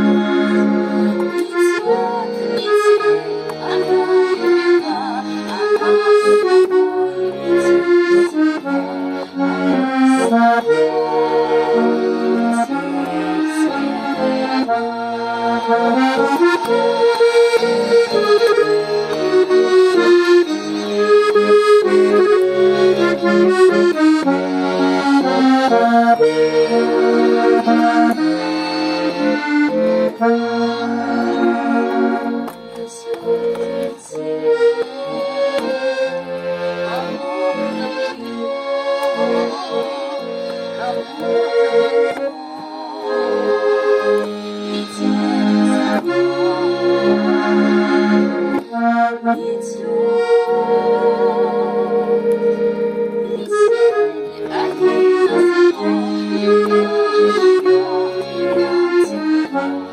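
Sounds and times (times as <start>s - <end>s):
accordion melody with bass notes: 0.0s - 59.9s.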